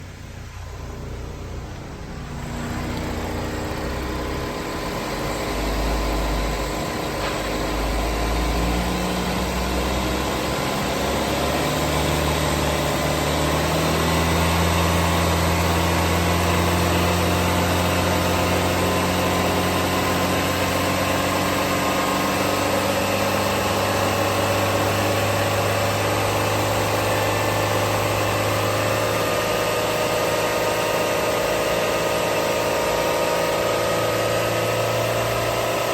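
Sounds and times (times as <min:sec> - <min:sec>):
car engine running with whine: 0:00.0 - 0:35.9.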